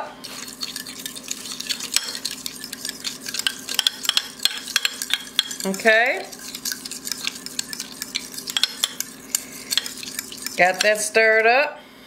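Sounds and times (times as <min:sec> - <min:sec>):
fork clicking and scraping a dish: 0:00.2 - 0:11.1.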